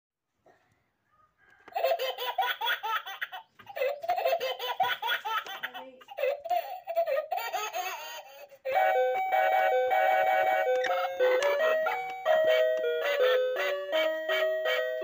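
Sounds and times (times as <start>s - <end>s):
high-pitched laughter: 1.7s - 15.0s.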